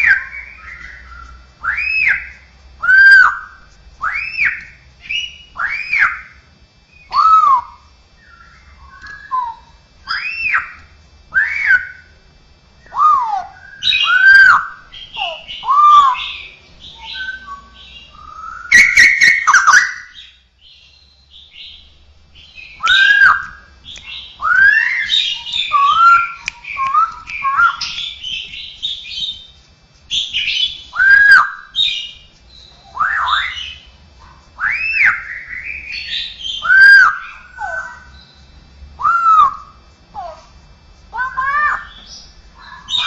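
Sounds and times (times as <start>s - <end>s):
bird singing whistled phrases: 0.0s - 12.1s, 12.8s - 29.5s, 30.1s - 33.9s, 34.6s - 39.8s.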